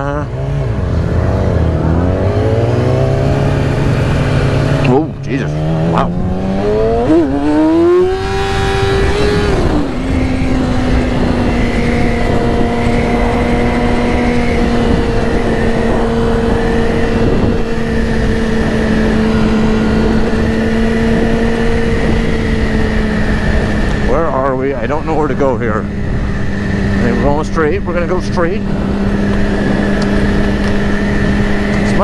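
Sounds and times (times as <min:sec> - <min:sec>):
motorcycle engine revving: 0:00.0 - 0:32.0
wind rush: 0:00.4 - 0:32.0.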